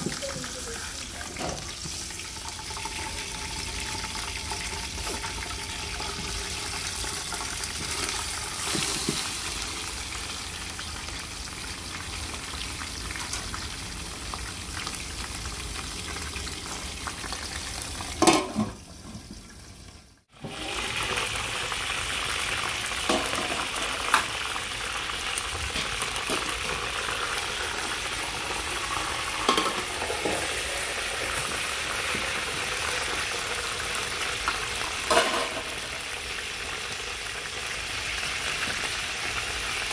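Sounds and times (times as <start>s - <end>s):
meat sizzling in hot oil: 0.0s - 39.9s.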